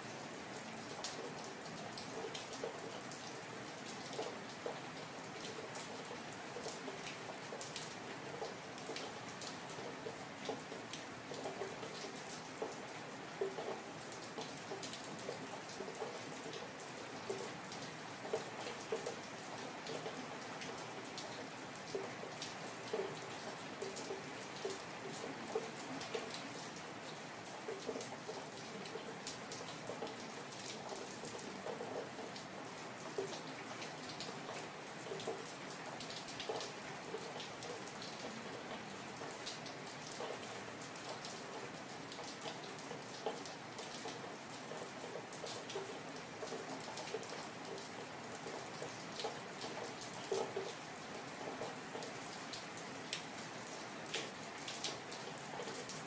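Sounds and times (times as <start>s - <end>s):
rain on hard street: 0.0s - 56.0s.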